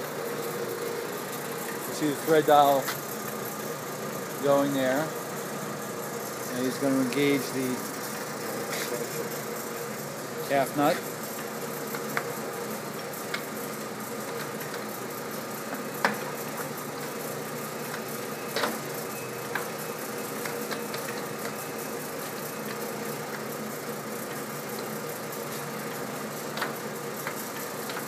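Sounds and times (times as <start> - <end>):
lathe running with mechanical hum: 0.0 - 28.0.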